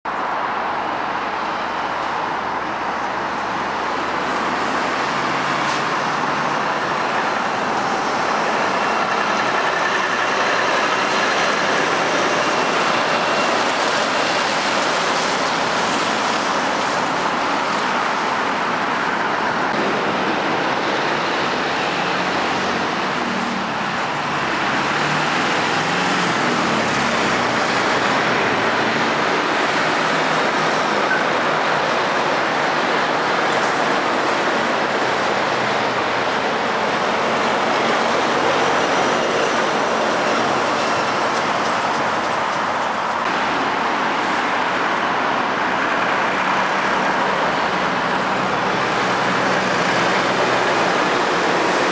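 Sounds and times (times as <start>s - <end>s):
lorry diesel engines: 0.1s - 51.9s
tyres on road: 0.1s - 51.9s.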